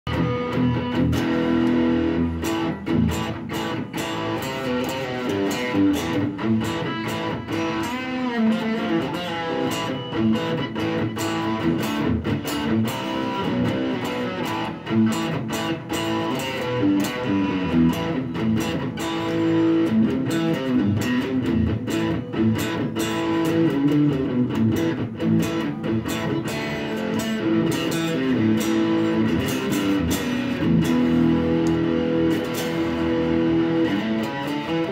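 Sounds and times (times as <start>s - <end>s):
electric guitar playing: 0.1s - 34.9s.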